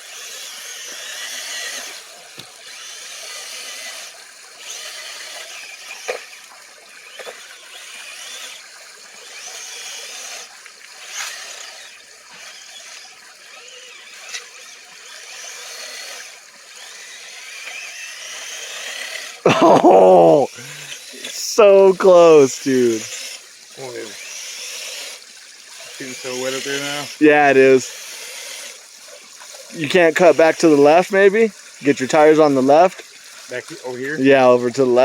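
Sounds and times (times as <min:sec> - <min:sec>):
toy truck electric motor whining: 0:00.0 - 0:35.0.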